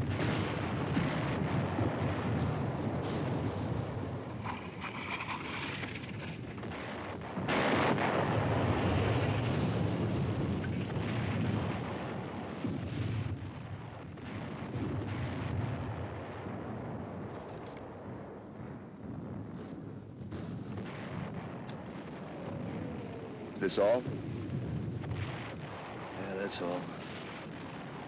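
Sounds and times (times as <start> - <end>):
distant artillery rumbling: 0.0 - 28.0.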